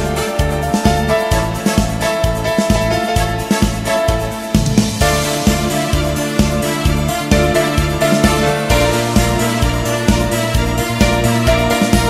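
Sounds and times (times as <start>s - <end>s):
background music with plucked notes: 0.0s - 12.0s.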